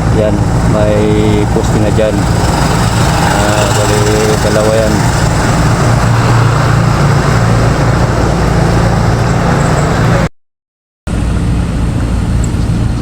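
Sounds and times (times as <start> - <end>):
loud engine noise: 0.0 - 10.3, 11.1 - 13.0.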